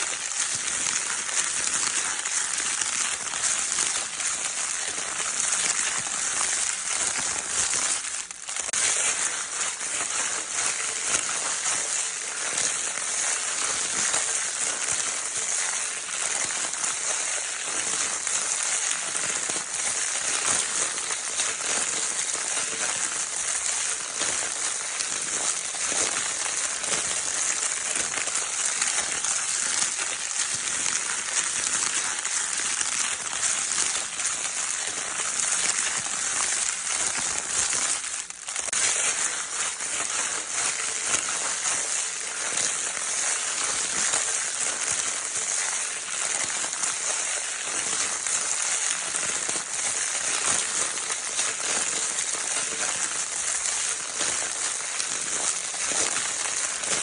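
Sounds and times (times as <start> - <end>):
crinkle paper rustling: 0.0 - 57.0.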